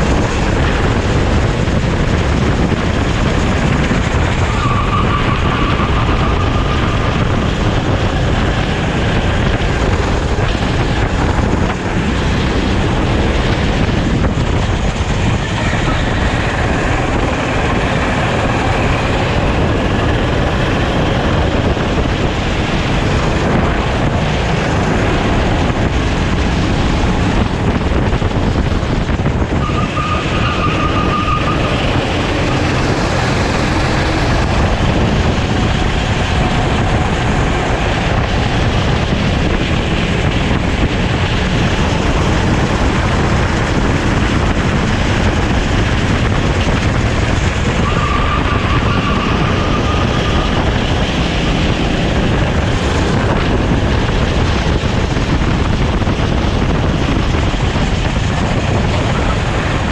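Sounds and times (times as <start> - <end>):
kart engine at racing speed: 0.0 - 59.9
wind rush over microphone: 0.0 - 59.9.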